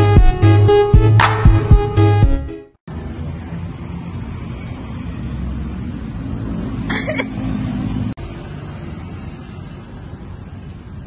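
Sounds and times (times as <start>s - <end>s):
street ambience rumble: 0.0s - 11.0s.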